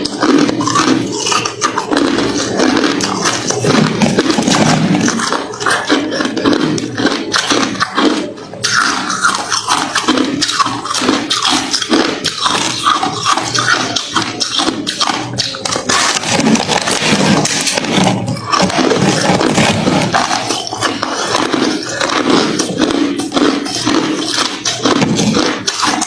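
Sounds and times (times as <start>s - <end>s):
crushed ice being chewed: 0.0s - 26.0s.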